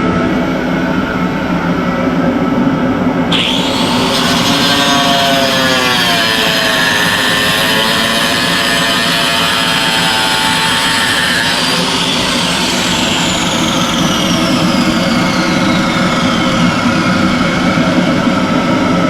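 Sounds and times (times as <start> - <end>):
high-pitched cutting sound: 3.3 - 18.7
cutoff wheel grinding fiberglass: 3.3 - 19.0.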